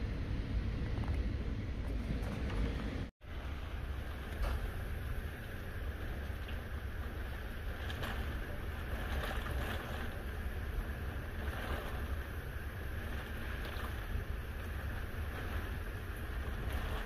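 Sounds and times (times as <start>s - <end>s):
muffled wind and heavy rain: 0.0s - 17.0s.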